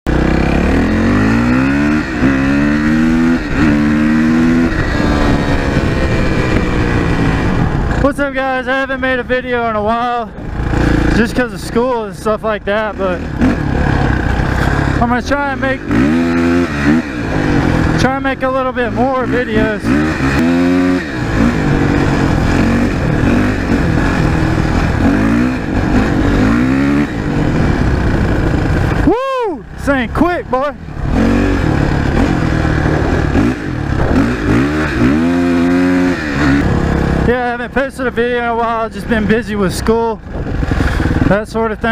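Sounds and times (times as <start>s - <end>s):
dirt bike engine accelerating: 0.1s - 41.9s.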